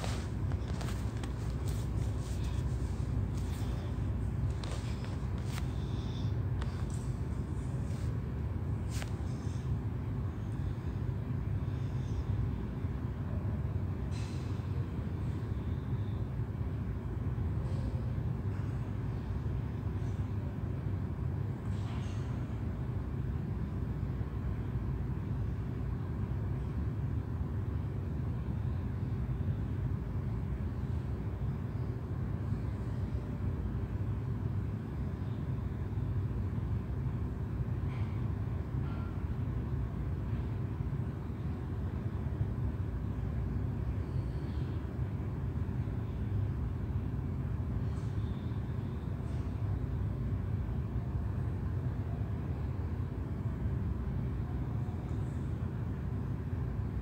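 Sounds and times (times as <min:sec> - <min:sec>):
faint constant hum: 0:00.0 - 0:57.0
low room rumble: 0:00.0 - 0:57.0.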